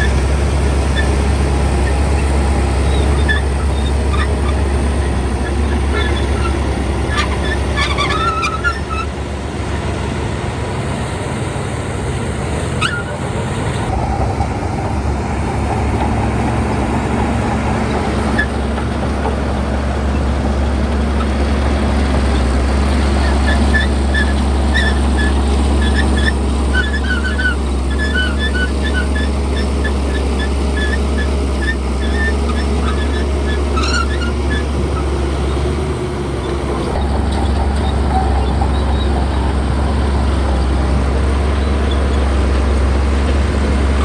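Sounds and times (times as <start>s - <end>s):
bulldozer diesel engine droning: 0.0s - 44.0s.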